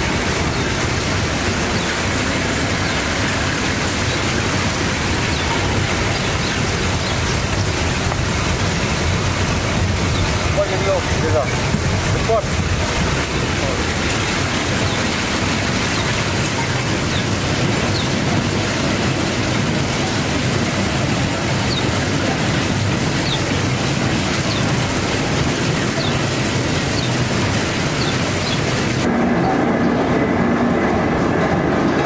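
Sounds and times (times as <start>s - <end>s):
mill machinery running: 0.0s - 32.0s.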